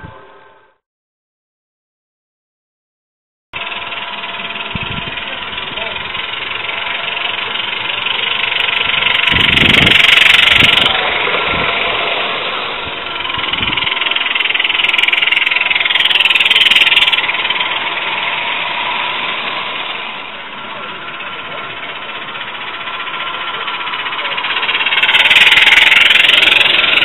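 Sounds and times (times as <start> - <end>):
steam locomotive train passing: 3.6 - 27.0.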